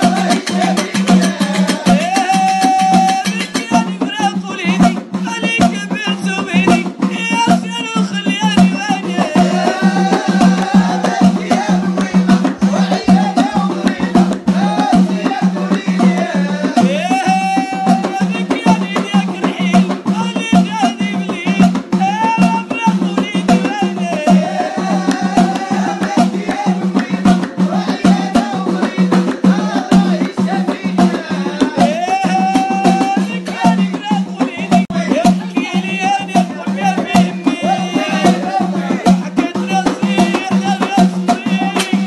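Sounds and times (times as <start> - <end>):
hand percussion and rattles: 0.0 - 42.0.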